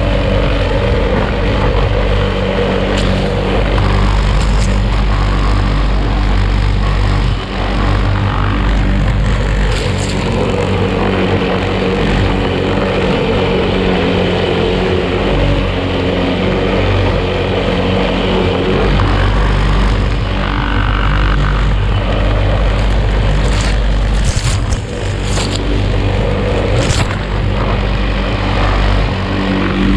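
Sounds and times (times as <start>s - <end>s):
lawn mower engine cutting grass: 0.0s - 29.9s.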